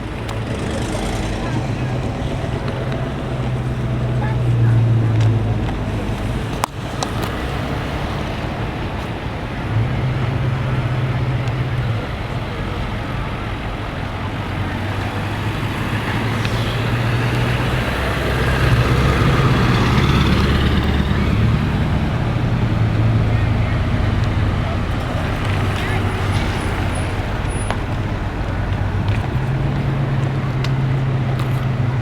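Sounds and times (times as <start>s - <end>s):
road noise: 0.0s - 32.0s
vehicle engine hum: 0.0s - 32.0s.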